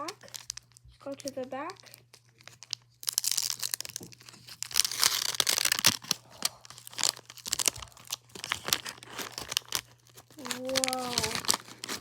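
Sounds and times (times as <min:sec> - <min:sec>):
paper wrapper crinkling and tearing: 0:00.0 - 0:12.0.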